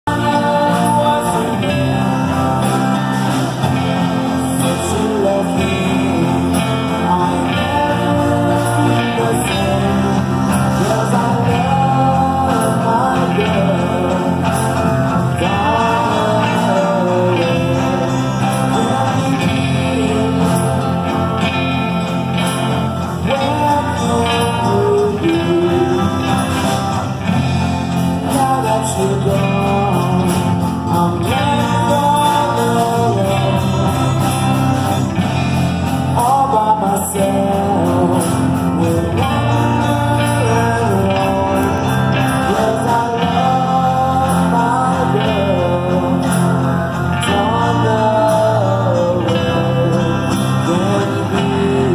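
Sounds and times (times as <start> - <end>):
electric guitar: 0.0 - 51.9
man singing: 0.0 - 51.9
strummed acoustic guitars: 0.0 - 51.9.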